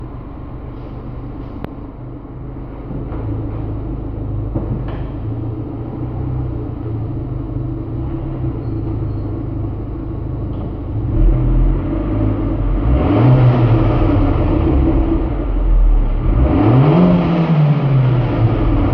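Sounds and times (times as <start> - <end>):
car engine rumbling: 0.0 - 18.9.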